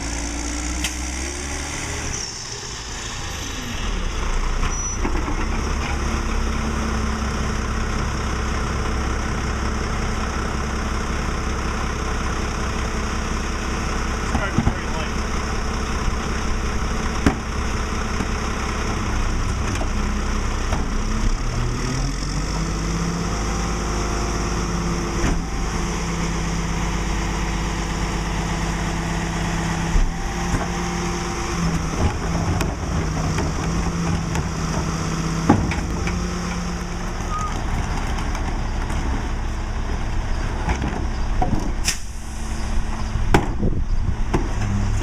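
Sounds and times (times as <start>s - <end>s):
garbage truck diesel engine: 0.0s - 45.0s.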